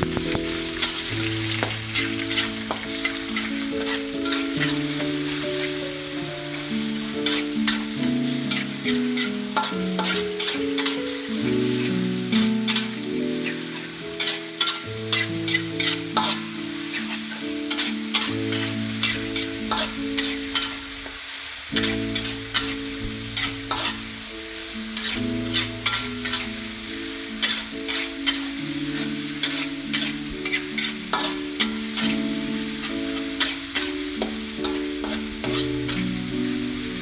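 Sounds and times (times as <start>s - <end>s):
spatula scraping a pan: 0.0s - 5.8s, 6.5s - 37.0s
food sizzling in a pan: 0.0s - 37.0s
soft background music: 0.0s - 37.0s.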